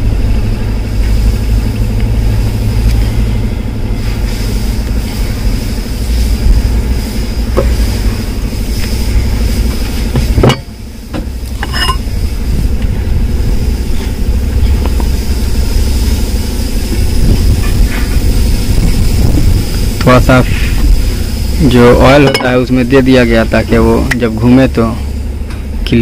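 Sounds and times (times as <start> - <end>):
low mechanical rumble: 0.0 - 26.0.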